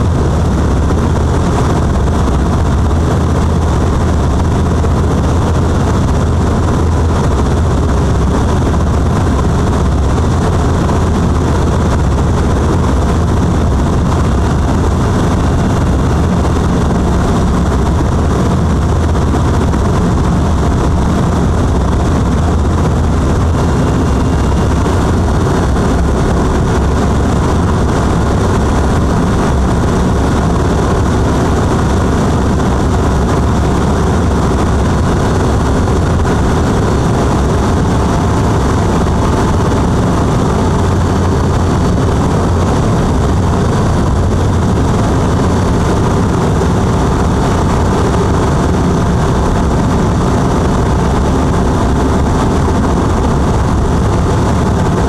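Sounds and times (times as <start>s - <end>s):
airflow noise: 0.0s - 55.0s
propeller aircraft engine in cockpit: 0.0s - 55.0s.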